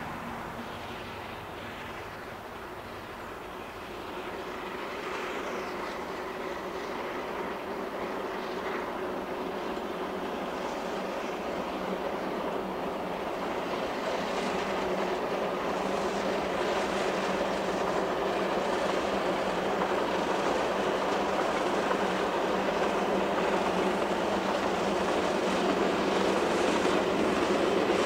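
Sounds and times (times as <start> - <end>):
steam locomotive running: 0.0 - 28.0.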